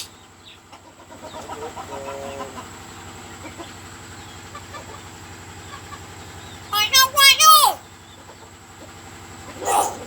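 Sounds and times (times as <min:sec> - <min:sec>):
bird clucking and chirping: 0:00.0 - 0:06.8, 0:07.8 - 0:10.0.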